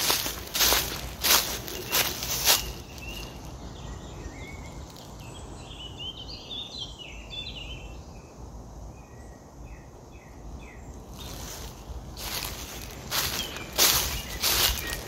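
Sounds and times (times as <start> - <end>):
songbird chirping and trilling: 0.0 - 15.0.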